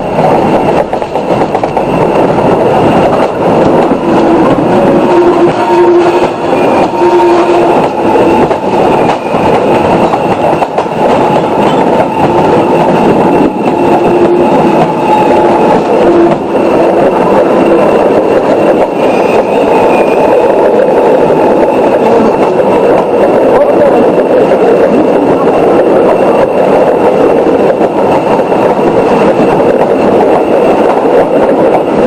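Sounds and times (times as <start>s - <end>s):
steam train rumbling on track: 0.0s - 32.0s.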